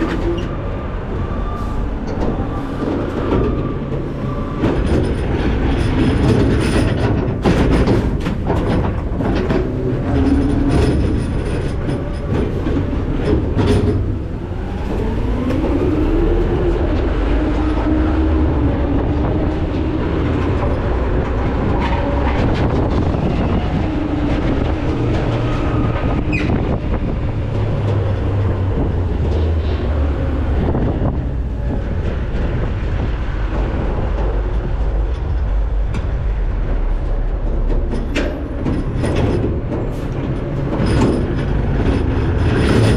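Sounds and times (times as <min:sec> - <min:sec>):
diesel engine and hydraulics: 0:00.0 - 0:42.9
metal clattering and squealing: 0:00.0 - 0:42.9.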